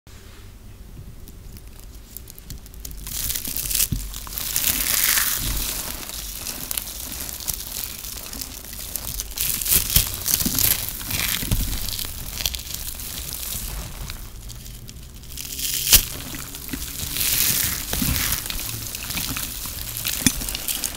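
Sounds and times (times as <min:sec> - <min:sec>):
dry soap crushed and crackling: 0:00.8 - 0:20.9.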